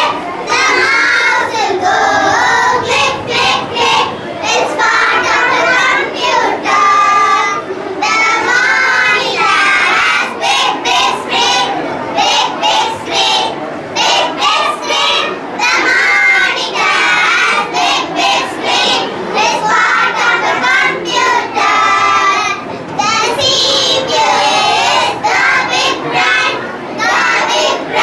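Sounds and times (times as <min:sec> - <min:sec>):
children singing: 0:00.0 - 0:28.0.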